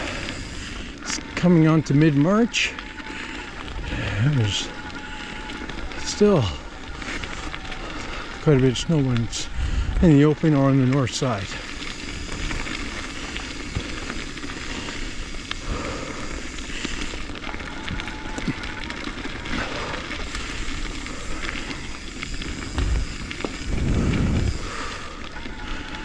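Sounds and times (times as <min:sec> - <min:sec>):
bike tyres on gravel: 0:00.0 - 0:26.0.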